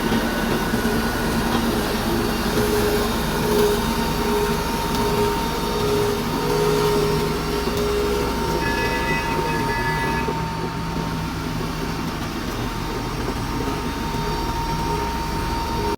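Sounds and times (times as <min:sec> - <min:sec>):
constant high whine: 0:00.0 - 0:15.9
excavator diesel engine running: 0:00.0 - 0:15.9.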